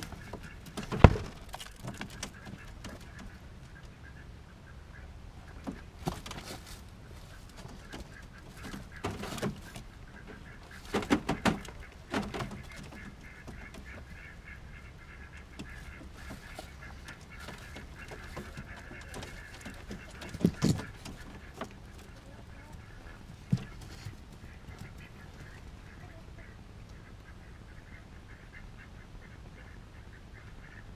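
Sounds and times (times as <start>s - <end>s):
pigeons clattering: 0.0s - 4.2s, 5.4s - 26.2s
pigeon calls: 0.0s - 30.9s.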